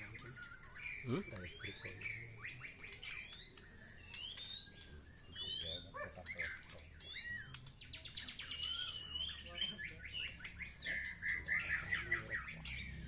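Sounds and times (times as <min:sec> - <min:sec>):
songbird singing whistled notes: 0:00.0 - 0:13.0.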